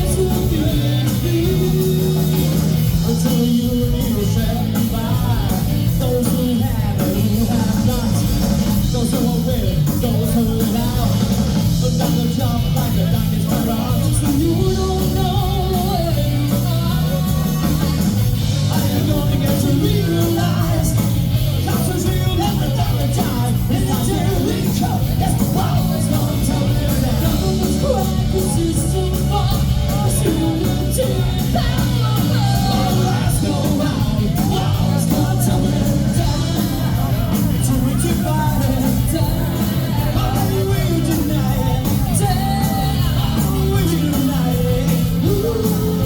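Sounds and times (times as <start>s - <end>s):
live rock band playing: 0.0s - 46.0s
person singing: 0.0s - 46.0s.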